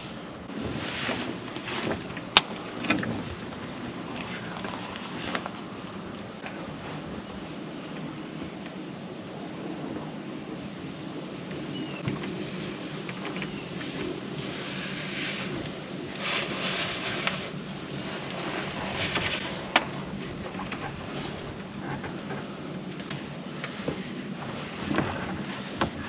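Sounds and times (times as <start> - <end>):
people rustling in wooden stand: 0.0 - 8.8, 11.5 - 26.0
wind hiss: 0.0 - 26.0.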